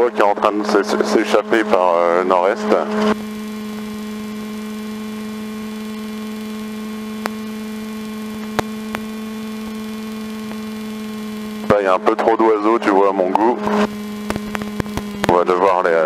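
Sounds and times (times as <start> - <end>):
aircraft cockpit hum: 0.0 - 16.0.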